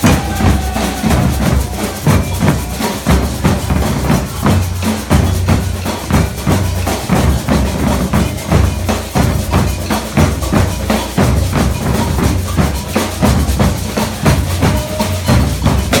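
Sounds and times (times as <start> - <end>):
percussion ensemble drumming: 0.0 - 16.0.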